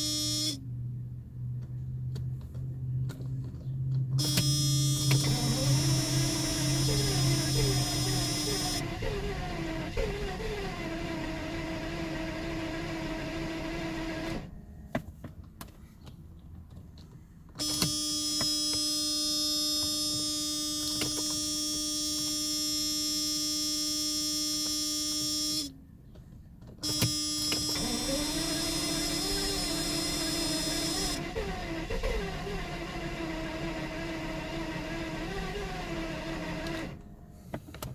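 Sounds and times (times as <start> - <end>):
car starter motor whining: 0.0 - 0.6, 4.1 - 14.8, 17.6 - 25.8, 26.8 - 37.9.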